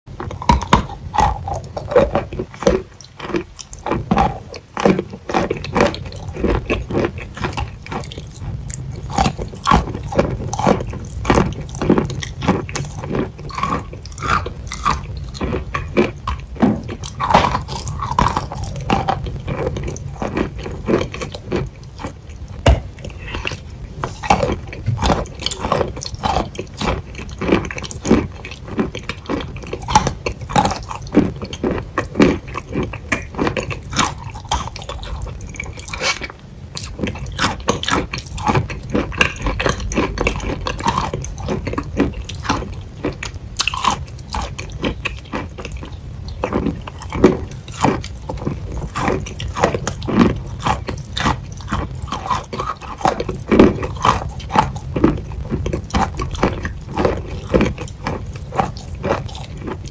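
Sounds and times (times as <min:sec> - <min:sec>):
crunchy chewing: 0:00.1 - 0:59.9.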